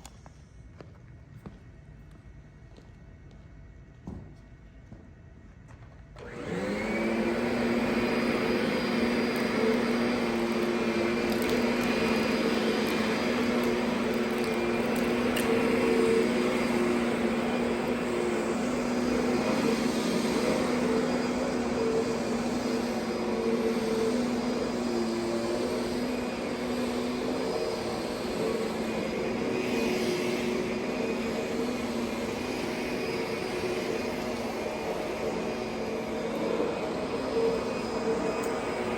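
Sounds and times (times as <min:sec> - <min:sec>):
upright vacuum cleaner motor running: 0:06.2 - 0:38.9.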